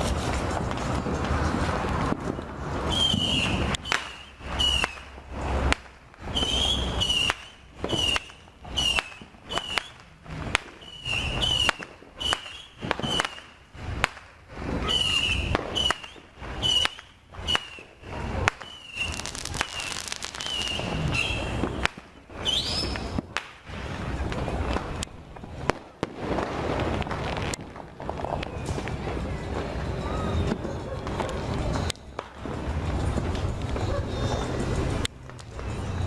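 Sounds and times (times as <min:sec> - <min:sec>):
firecrackers banging: 0:00.0 - 0:36.0.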